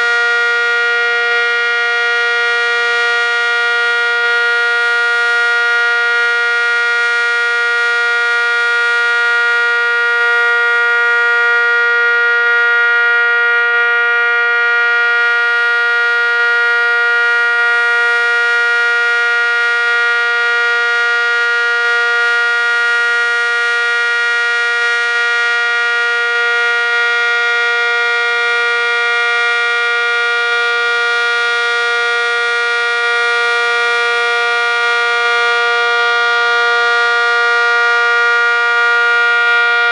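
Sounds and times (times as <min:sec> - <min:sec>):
warning siren two-note chord: 0:00.0 - 0:39.9.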